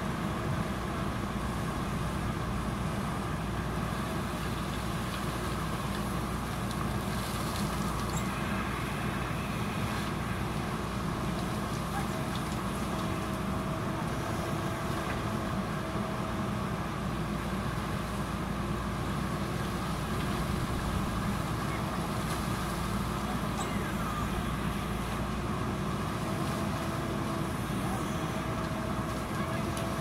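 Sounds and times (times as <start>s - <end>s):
diesel engine running: 0.0s - 30.0s
faint steady whine: 0.0s - 30.0s.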